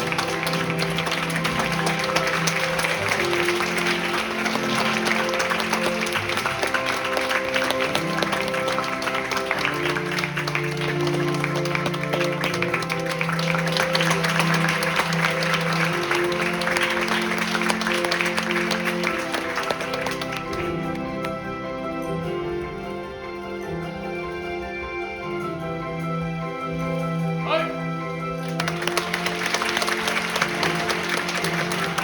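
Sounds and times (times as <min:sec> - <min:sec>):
audience applauding: 0:00.0 - 0:22.9, 0:28.1 - 0:32.0
music with long held notes: 0:00.0 - 0:32.0.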